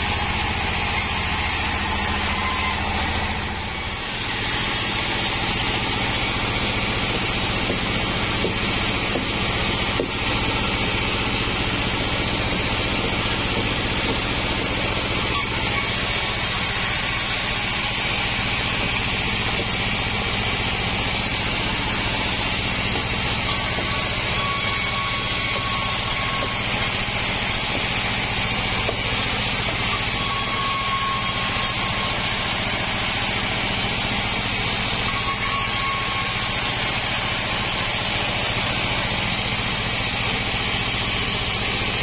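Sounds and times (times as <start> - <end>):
band saw cutting log: 0.0 - 42.0
machine hum: 0.0 - 42.0.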